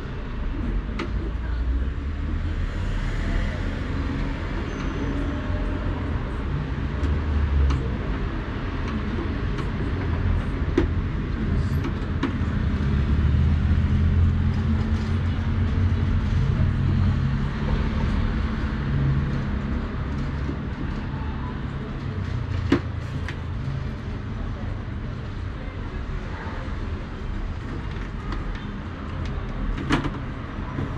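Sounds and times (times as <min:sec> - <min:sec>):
traffic rumble: 0:00.0 - 0:30.9.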